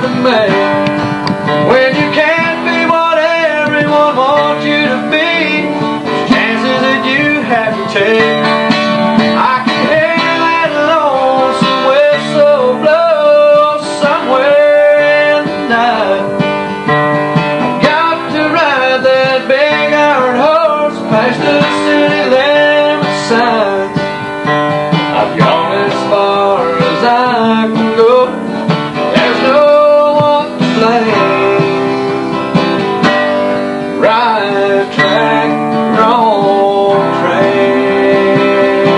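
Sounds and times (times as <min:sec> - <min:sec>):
acoustic guitar strummed: 0:00.0 - 0:38.9
man singing: 0:00.0 - 0:38.9.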